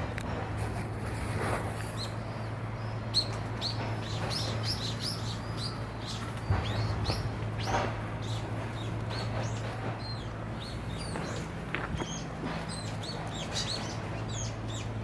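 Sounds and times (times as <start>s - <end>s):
small birds chirping: 1.8s - 15.0s.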